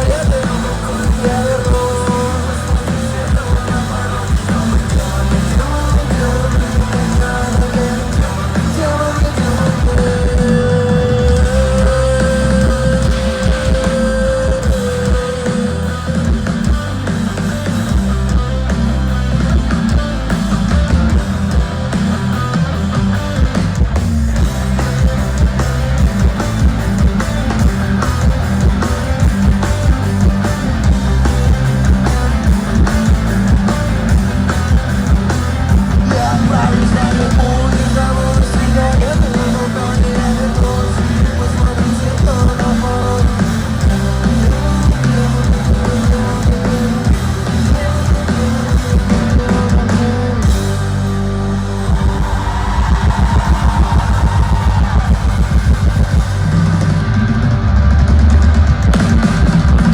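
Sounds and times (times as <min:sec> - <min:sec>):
bass and drums: 0:00.0 - 0:59.9
electric guitars: 0:00.0 - 0:59.9.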